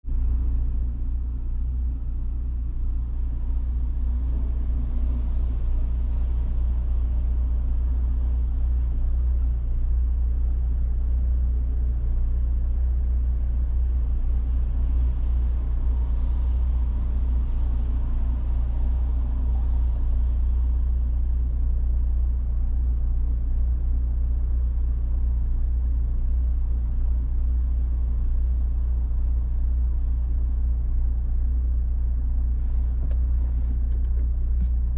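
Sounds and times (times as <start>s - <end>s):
car engine rumble: 0.0s - 34.9s.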